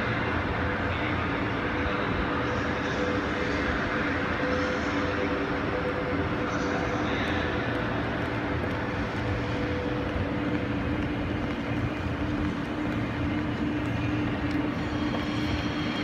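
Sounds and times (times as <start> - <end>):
constant hum with steady tones: 0.0 - 16.0
railway station hall din: 0.0 - 16.0.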